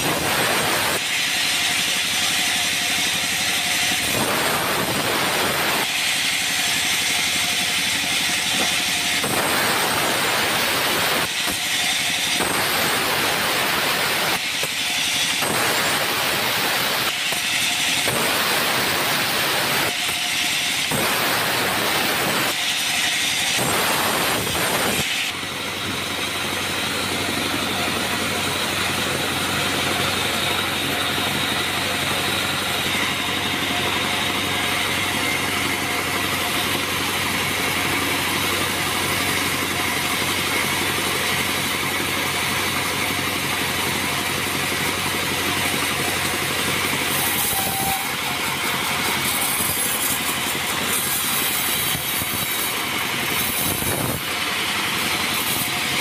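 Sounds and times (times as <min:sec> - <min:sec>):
band sawmill machinery humming: 0:00.0 - 0:56.0
high-pitched whine: 0:00.0 - 0:56.0.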